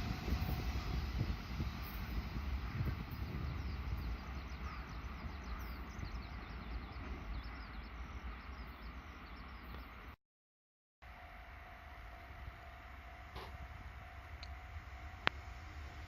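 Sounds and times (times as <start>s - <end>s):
freight train rumbling: 0.0s - 10.2s, 11.1s - 16.0s.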